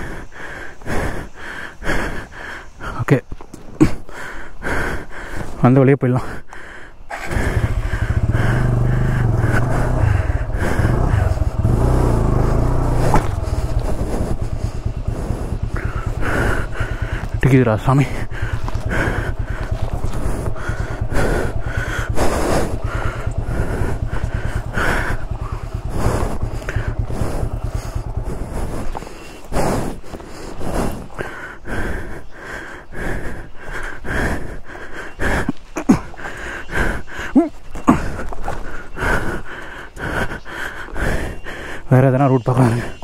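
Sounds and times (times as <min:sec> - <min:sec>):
motorcycle engine idling: 0:00.0 - 0:05.5, 0:06.1 - 0:43.0
person breathing heavily: 0:00.0 - 0:43.0.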